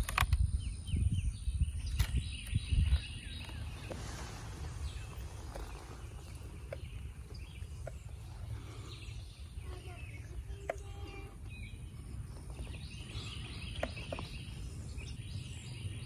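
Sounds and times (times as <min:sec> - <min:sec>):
faint bird chirps: 0:00.8 - 0:16.0.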